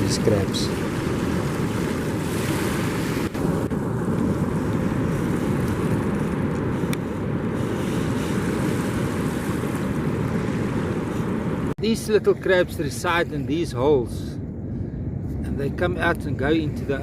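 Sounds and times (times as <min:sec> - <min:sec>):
beach surf: 0:00.0 - 0:14.4
wind buffeting microphone: 0:00.0 - 0:17.0.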